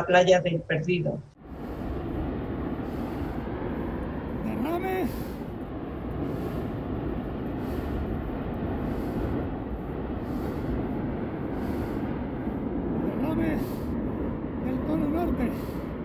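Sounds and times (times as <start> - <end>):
volcano low rumble: 1.3 - 16.0.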